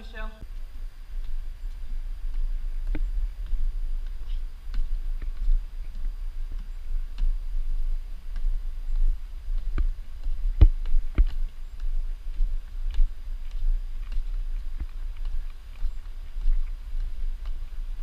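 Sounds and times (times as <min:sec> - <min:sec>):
footsteps on stone steps: 0:00.0 - 0:18.0
steady low rumble: 0:00.0 - 0:18.0.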